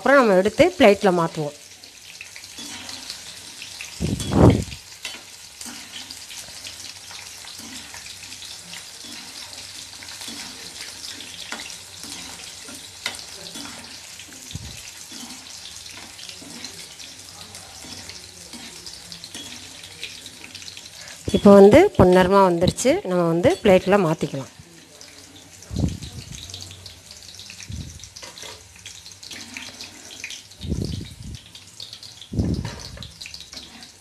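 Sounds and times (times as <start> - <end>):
food sizzling in hot oil: 0.0 - 34.0
metal spoon turning food: 0.6 - 34.0.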